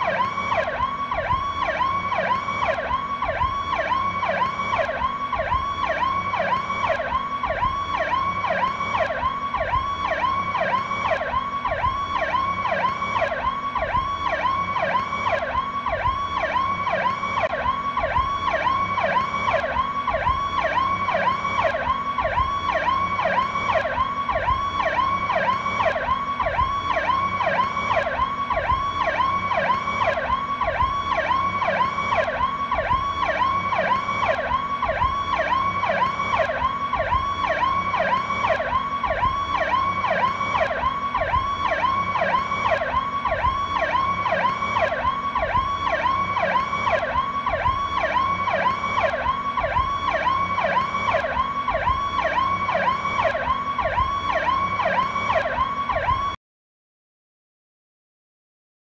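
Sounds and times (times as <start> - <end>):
electronic police siren: 0.0 - 56.4.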